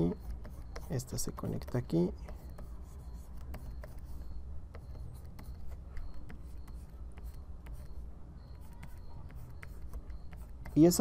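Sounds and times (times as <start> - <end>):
stylus clicking on tablet: 0.0 - 11.0.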